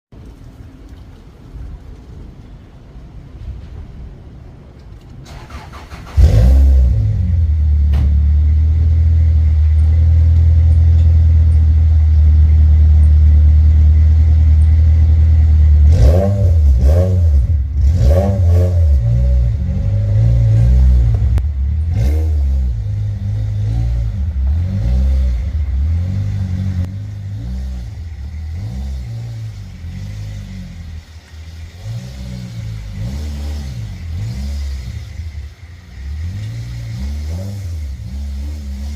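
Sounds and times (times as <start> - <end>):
car engine revving: 5.3 - 38.9.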